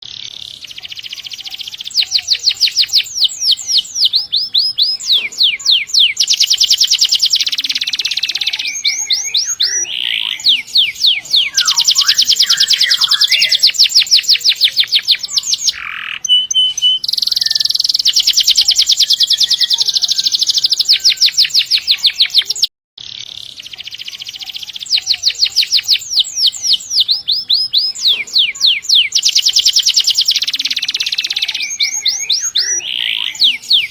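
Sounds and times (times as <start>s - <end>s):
canary singing trills: 0.0s - 33.9s.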